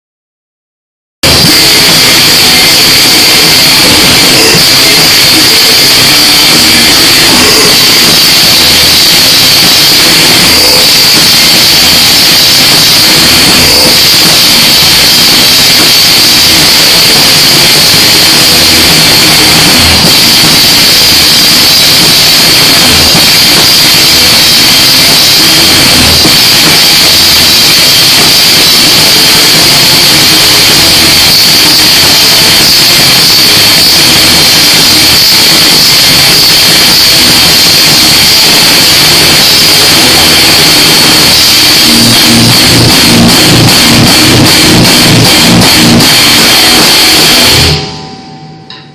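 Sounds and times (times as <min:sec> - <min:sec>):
distorted live metal music: 0:01.2 - 0:48.9.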